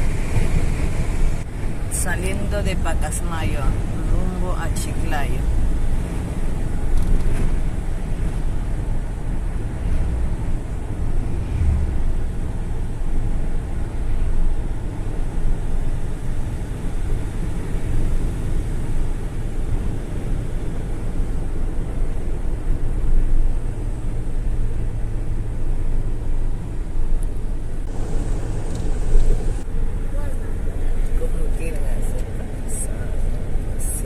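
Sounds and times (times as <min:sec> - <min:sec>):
vehicle driving on highway: 0:00.0 - 0:34.0.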